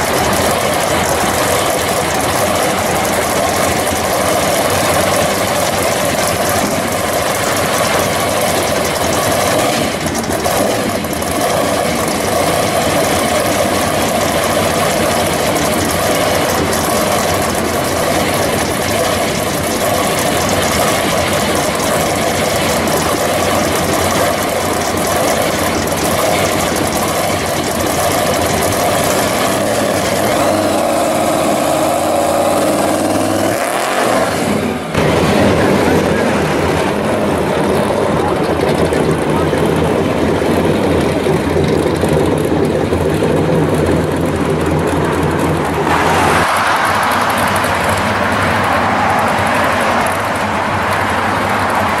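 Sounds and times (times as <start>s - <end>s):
supercharged engine idling and revving: 0.0s - 52.0s.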